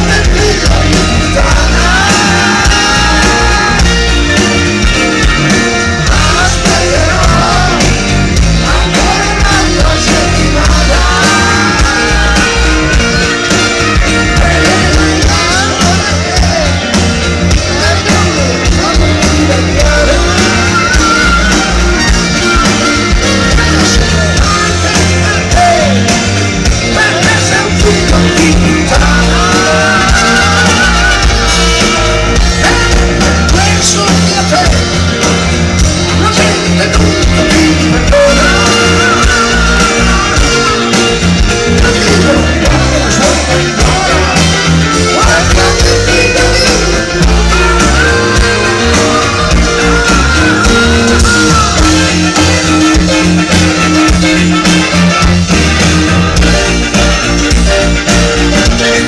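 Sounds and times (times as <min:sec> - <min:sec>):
man singing: 0:00.0 - 0:55.5
pop-rock band playing: 0:00.0 - 0:59.0.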